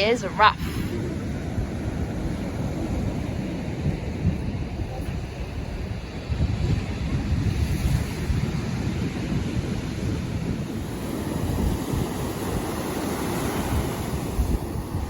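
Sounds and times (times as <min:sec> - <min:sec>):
ocean surf breaking on shore: 0:00.0 - 0:15.0
wind gusting on microphone: 0:00.0 - 0:15.0.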